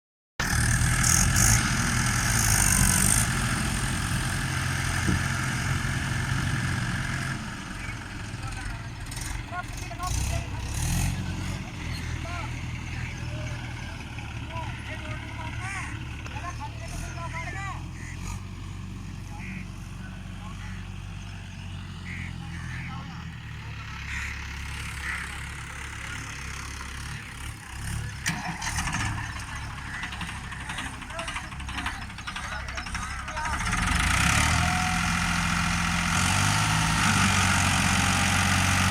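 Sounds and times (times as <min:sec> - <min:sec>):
tractor diesel engine running: 0:00.4 - 0:38.9.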